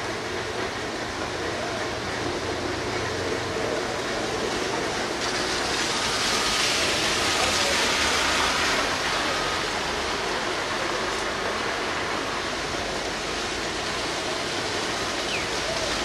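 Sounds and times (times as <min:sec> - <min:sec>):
heavy rain: 0:00.0 - 0:16.0
low engine rumble: 0:00.0 - 0:16.0.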